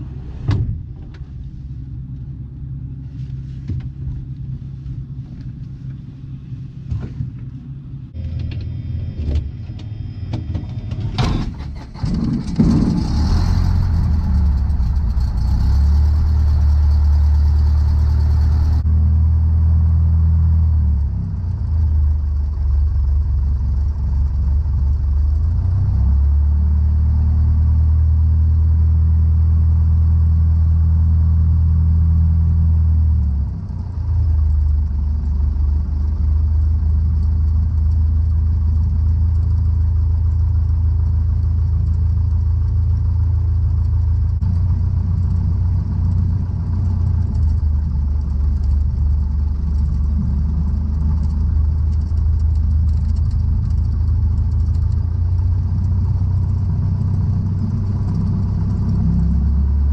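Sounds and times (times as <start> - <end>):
small aircraft engine running: 0.0 - 59.9.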